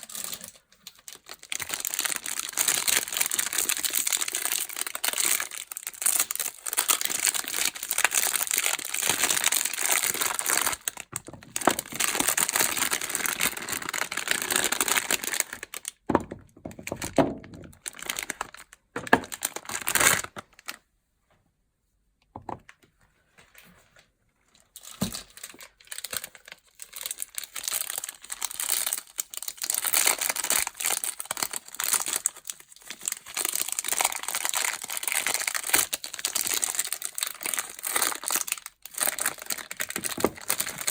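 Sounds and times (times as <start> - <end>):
packaging crinkling and tearing: 0.0 - 16.0, 16.7 - 20.8, 24.7 - 40.9.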